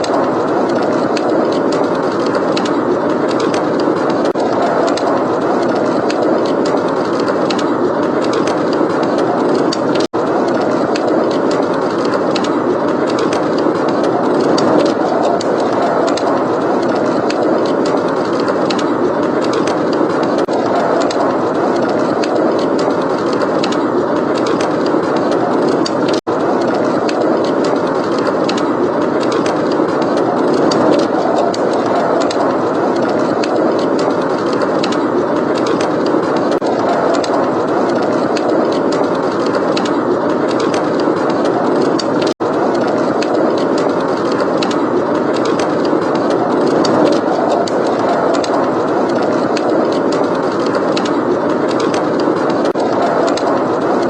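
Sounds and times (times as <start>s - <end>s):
blizzard wind rushing: 0.0s - 54.0s
wood fire crackling: 0.0s - 54.0s.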